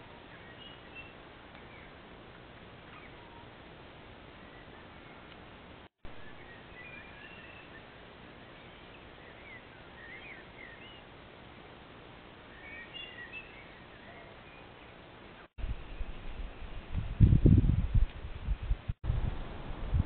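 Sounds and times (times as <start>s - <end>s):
faint birds chirping: 0.0s - 16.8s
steady microphone hiss: 0.0s - 20.0s.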